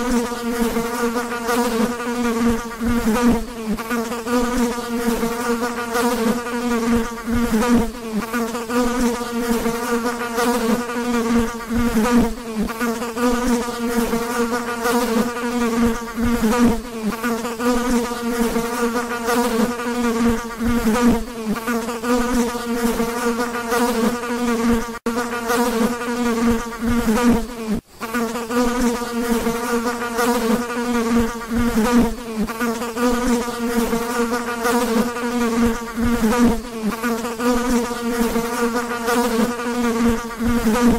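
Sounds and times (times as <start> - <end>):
fly buzzing: 0.0 - 40.9.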